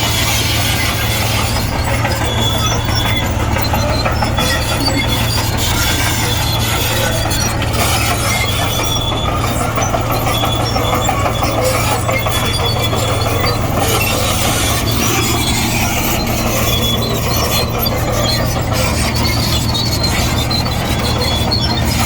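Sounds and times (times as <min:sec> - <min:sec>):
diesel engine drone: 0:00.0 - 0:22.0
steel tracks squeaking: 0:00.0 - 0:22.0.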